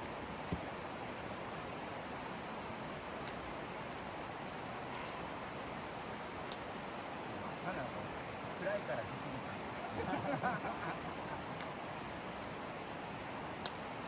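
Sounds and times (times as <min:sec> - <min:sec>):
campfire crackling pops: 0:00.0 - 0:14.0
campfire hissing: 0:00.0 - 0:14.0.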